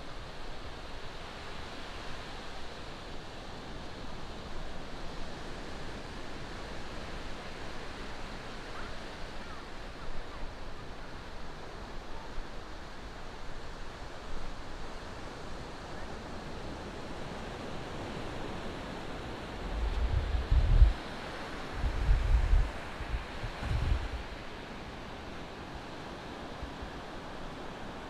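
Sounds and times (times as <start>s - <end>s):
waves breaking on beach: 0.1s - 28.0s.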